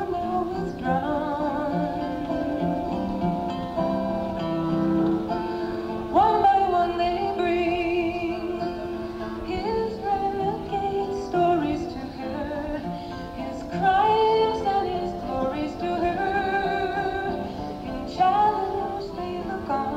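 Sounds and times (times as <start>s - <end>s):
acoustic guitar: 0.0s - 19.9s
woman singing with vibrato: 0.0s - 19.9s.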